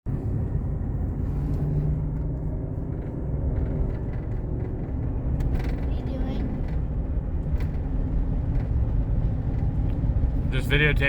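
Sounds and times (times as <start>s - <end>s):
road noise: 0.0s - 11.0s
truck engine rumble: 0.1s - 11.0s.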